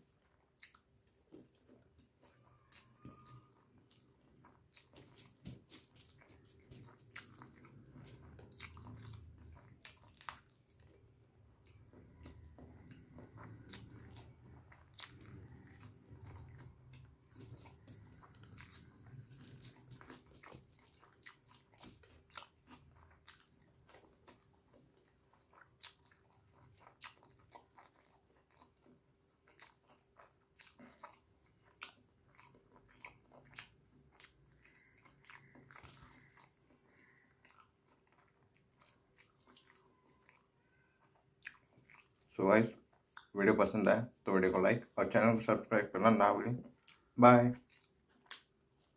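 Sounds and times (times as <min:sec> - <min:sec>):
man chewing food: 0:00.0 - 0:43.4, 0:45.4 - 0:48.9.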